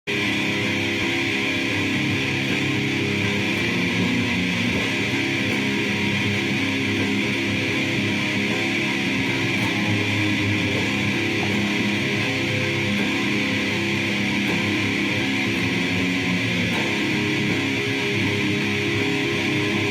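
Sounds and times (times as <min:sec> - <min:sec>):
distorted electric guitar drone: 0:00.1 - 0:19.9.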